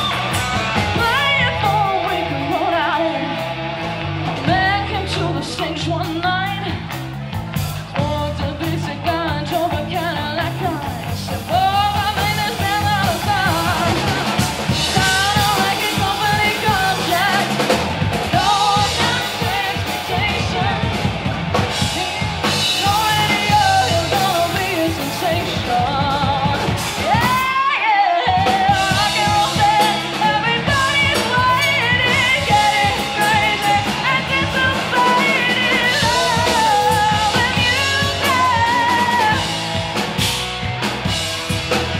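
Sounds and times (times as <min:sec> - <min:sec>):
woman singing lead vocal: 0:00.0 - 0:03.6, 0:04.3 - 0:07.0, 0:07.9 - 0:40.1
live rock band playing: 0:00.0 - 0:41.9.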